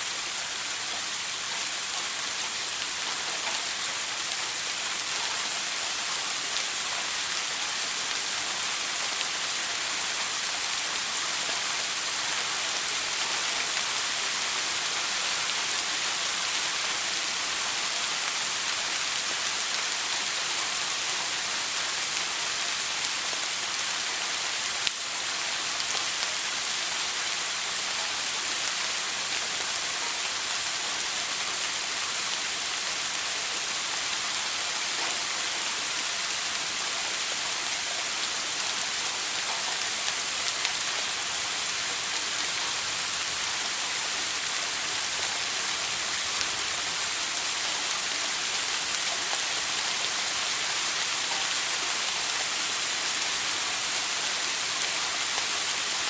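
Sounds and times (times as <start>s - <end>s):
shower water spray hiss: 0.0s - 56.0s.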